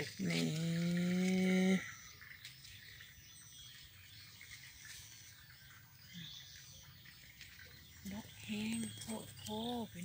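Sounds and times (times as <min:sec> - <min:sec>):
faint bird chirps: 0:00.6 - 0:10.0.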